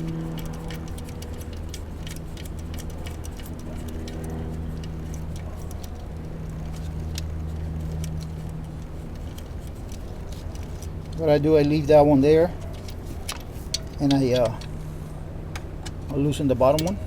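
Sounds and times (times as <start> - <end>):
small metal clinks: 0.0 - 11.8, 12.5 - 14.9
ratchet clicking: 0.0 - 11.9, 12.6 - 14.8
steady low hum: 0.0 - 17.0.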